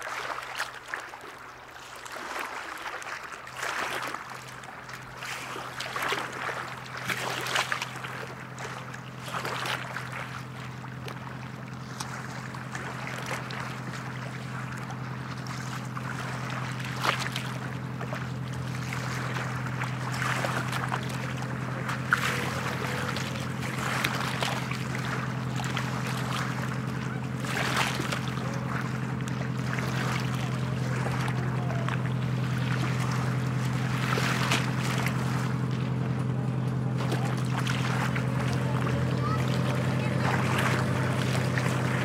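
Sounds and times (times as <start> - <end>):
boat engine hum: 0.0 - 42.0.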